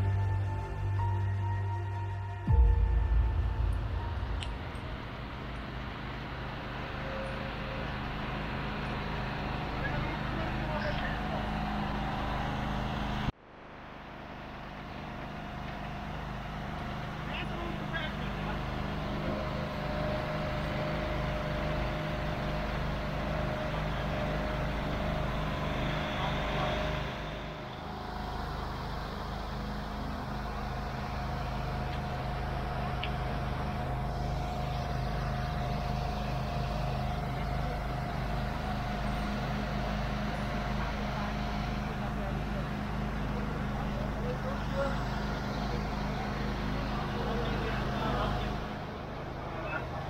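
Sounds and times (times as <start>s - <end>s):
engine running steadily: 0.0s - 50.0s
thin steady whine: 0.0s - 50.0s.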